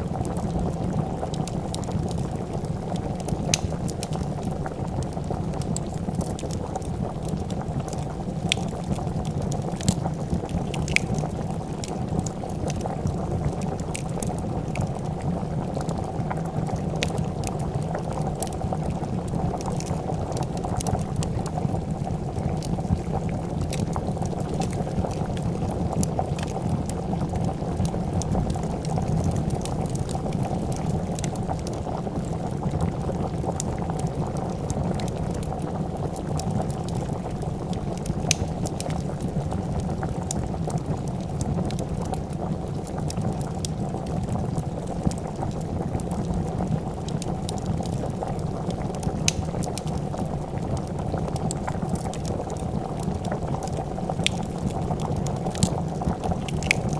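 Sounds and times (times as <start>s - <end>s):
soup bubbling in a pot: 0.0s - 56.9s
wood fire crackling: 0.0s - 56.9s.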